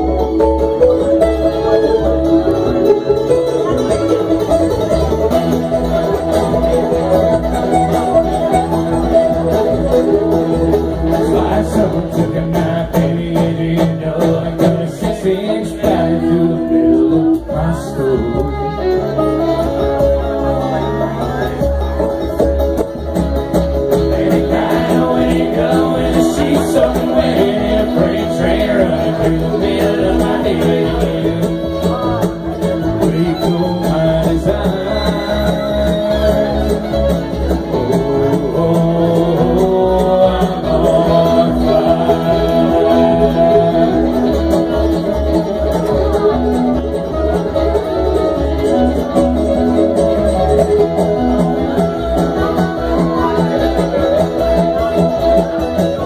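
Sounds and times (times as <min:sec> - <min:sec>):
bluegrass band playing: 0:00.0 - 0:56.0.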